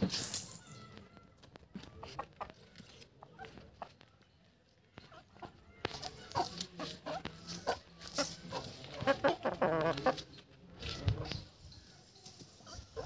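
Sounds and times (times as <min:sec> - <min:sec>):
chickens clucking: 0:01.4 - 0:13.0.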